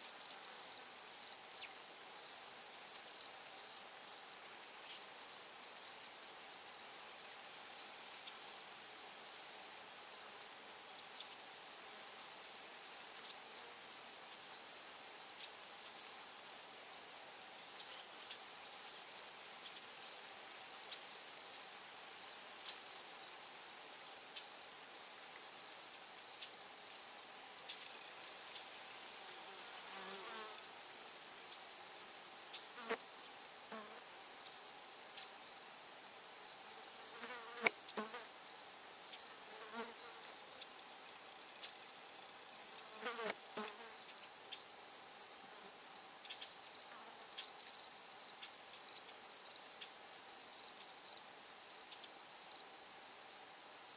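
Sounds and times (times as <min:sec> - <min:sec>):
insects chorus: 0:00.0 - 0:53.9.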